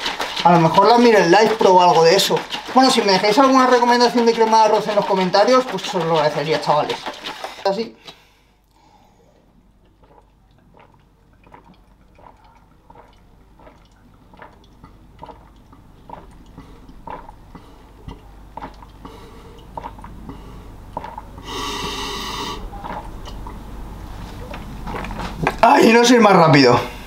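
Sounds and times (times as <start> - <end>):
person gulping a drink: 0.0 - 7.7, 8.7 - 25.6.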